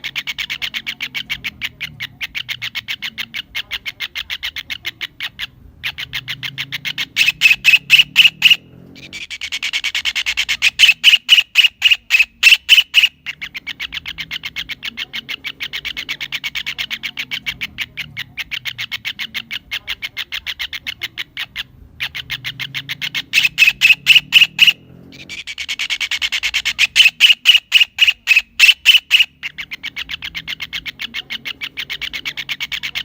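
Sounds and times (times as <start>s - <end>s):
kingfisher calling: 0.0s - 33.0s.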